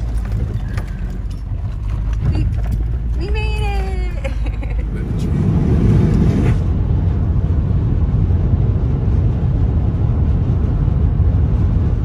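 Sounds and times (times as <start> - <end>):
truck road and engine rumble: 0.0 - 12.0.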